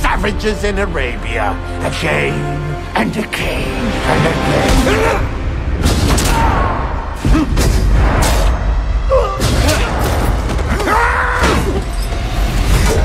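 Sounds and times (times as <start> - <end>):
dramatic score with deep rumble: 0.0 - 13.0.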